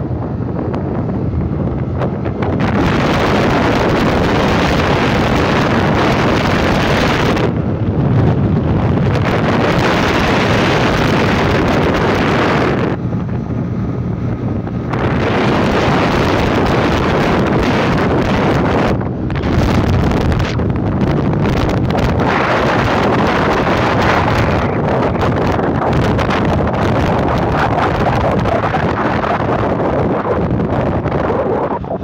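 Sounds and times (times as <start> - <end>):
motorcycle road noise: 0.0 - 32.0
wind buffeting microphone: 0.0 - 32.0.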